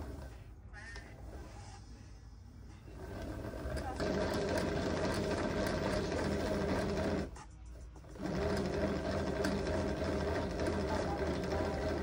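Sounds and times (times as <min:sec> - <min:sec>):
small machine whirring hum: 0:00.0 - 0:12.0.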